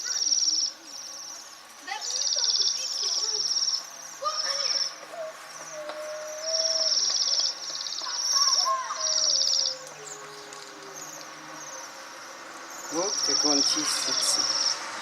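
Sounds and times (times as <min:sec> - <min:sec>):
songbirds buzzy trilled calls: 0:00.0 - 0:15.0.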